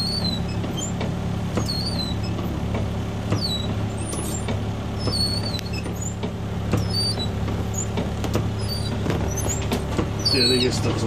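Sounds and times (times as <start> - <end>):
bus engine idling: 0.0 - 11.0
windshield wiper squeaking: 0.0 - 11.0.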